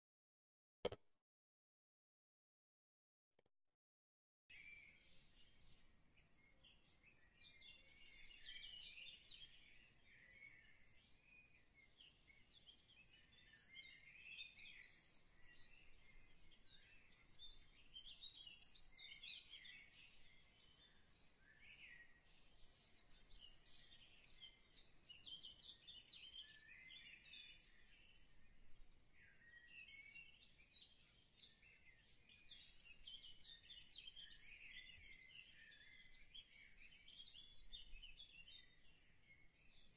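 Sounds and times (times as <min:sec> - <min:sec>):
small birds chirping: 0:04.5 - 0:39.9.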